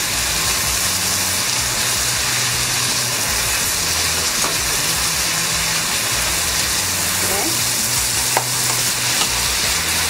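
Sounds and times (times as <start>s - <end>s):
filling sizzling in a frying pan: 0.0s - 10.0s.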